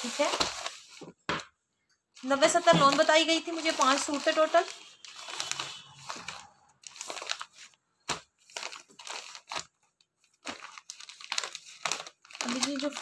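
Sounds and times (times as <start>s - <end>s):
plastic packaging crinkling: 0.0s - 1.1s, 2.2s - 13.0s.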